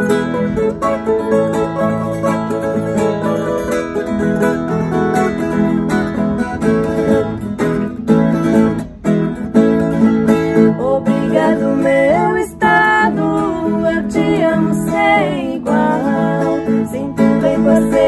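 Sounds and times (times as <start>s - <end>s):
acoustic guitar strummed chords: 0.0s - 18.0s
viola caipira picked melody: 0.0s - 18.0s.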